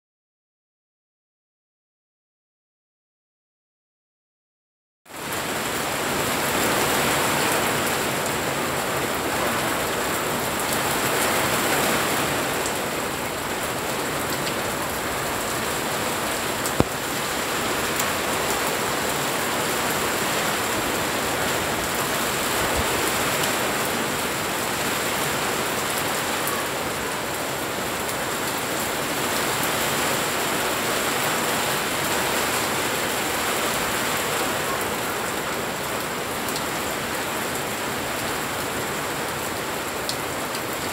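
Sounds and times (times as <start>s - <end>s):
heavy rain on leaves: 5.1s - 40.9s.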